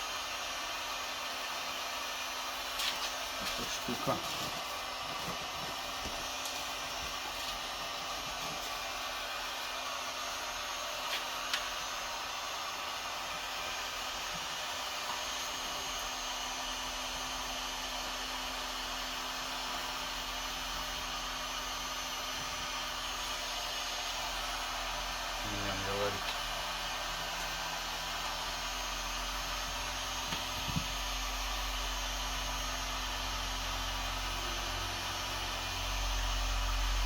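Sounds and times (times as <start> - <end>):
heat gun blowing: 0.0 - 37.0.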